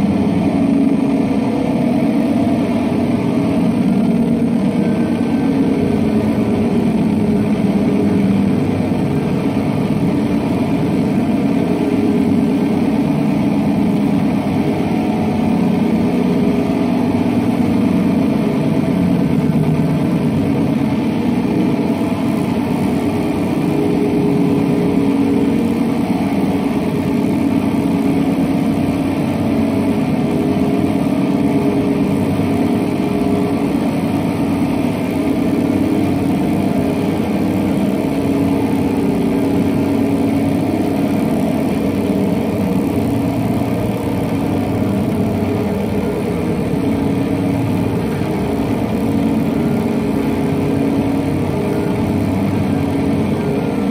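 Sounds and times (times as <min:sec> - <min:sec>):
electric guitar drone with flutter: 0:00.0 - 0:53.9.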